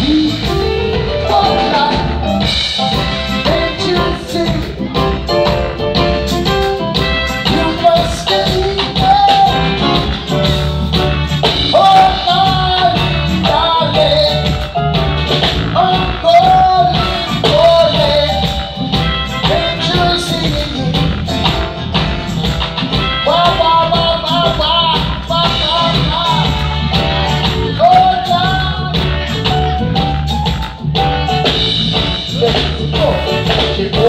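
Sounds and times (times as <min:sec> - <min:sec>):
person singing: 0:00.0 - 0:10.6, 0:11.5 - 0:21.6, 0:22.9 - 0:30.2, 0:32.2 - 0:34.0
live reggae band: 0:00.0 - 0:34.0.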